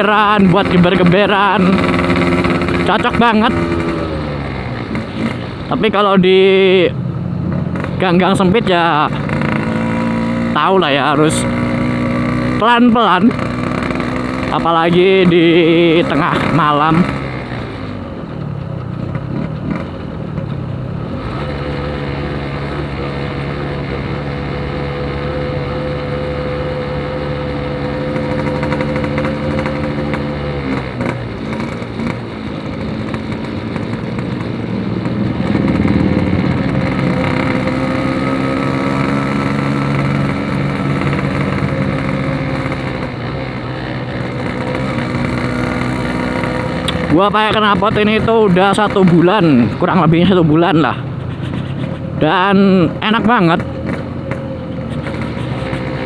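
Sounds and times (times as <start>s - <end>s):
two-stroke motorcycle engine: 0.0s - 56.0s.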